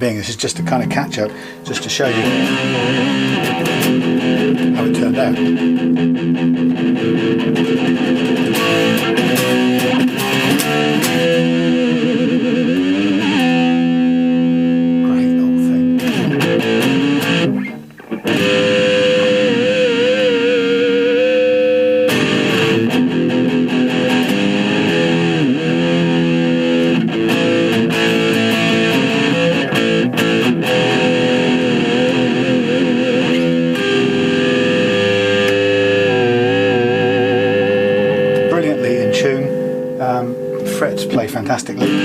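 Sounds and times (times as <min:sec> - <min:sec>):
electric guitar notes and chords: 0:00.0 - 0:42.0.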